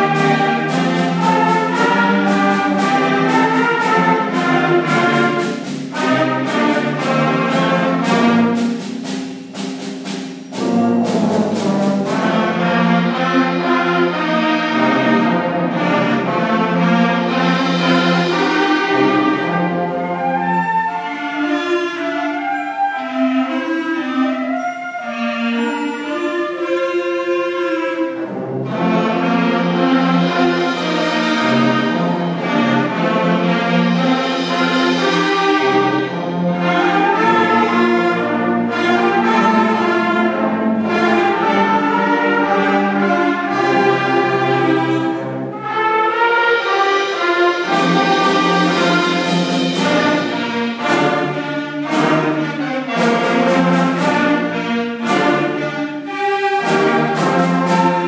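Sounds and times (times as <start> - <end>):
drum strikes: 0.0 - 13.8, 15.1 - 20.1, 29.0 - 45.5, 46.6 - 58.0
concert band playing: 0.0 - 58.0.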